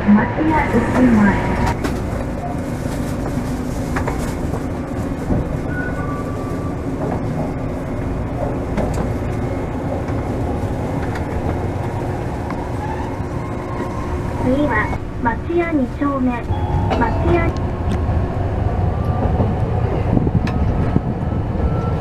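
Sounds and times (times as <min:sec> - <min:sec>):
streetcar wheels rumbling on rail: 0:00.0 - 0:22.0.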